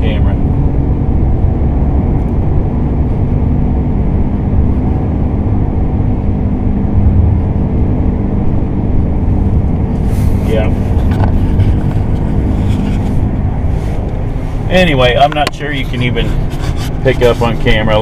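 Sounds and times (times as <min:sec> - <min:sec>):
tyre and road noise: 0:00.0 - 0:18.0.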